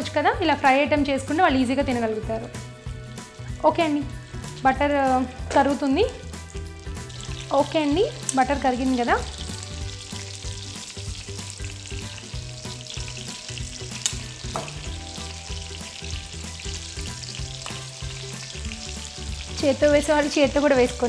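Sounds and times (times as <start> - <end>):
chicken sizzling in a frying pan: 3.1 - 21.0.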